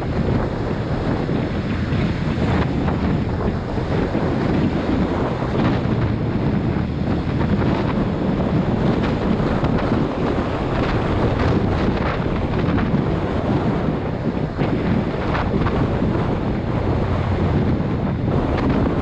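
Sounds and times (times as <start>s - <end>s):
tyres on wet road: 0.0s - 19.0s
wind buffeting microphone: 0.0s - 19.0s.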